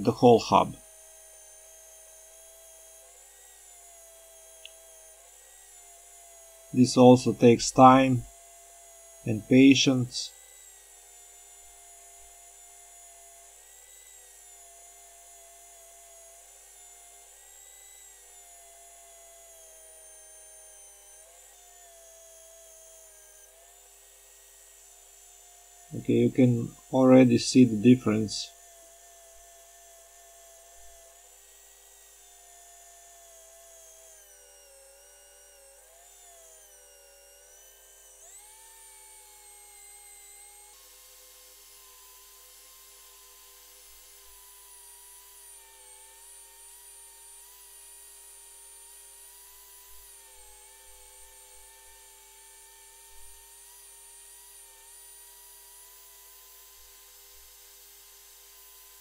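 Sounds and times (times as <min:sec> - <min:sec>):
electric drill motor whine: 0:00.7 - 0:59.0.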